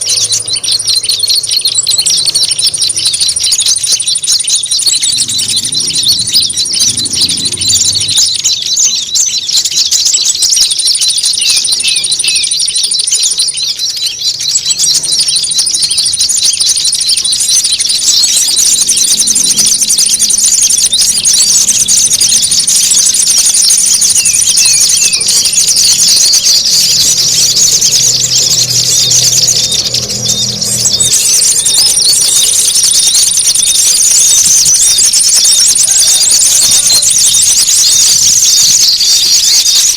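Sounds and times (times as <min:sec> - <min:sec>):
songbirds chattering and twittering: 0:00.0 - 0:39.9.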